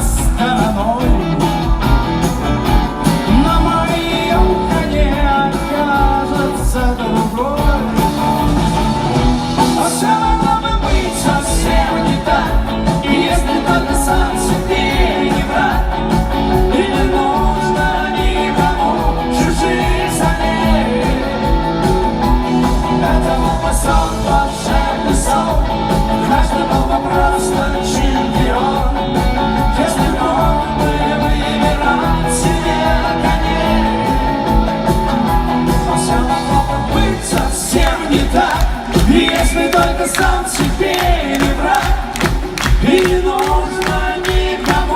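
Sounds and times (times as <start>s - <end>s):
rock song with singing: 0.0s - 44.9s.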